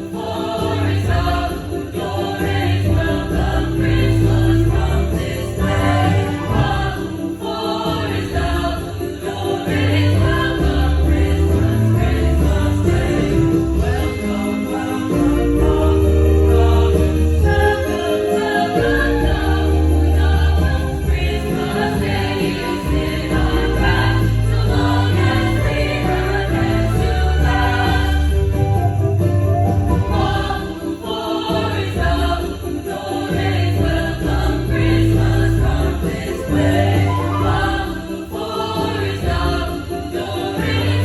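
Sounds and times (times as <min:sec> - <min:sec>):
choir singing: 0:00.0 - 0:41.0
shaken metal rattle percussion: 0:00.0 - 0:41.0.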